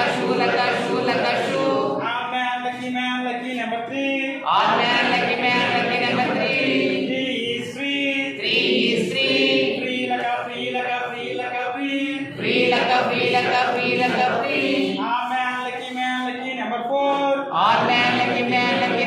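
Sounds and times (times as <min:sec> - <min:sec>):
voices singing and chanting: 0:00.0 - 0:19.0.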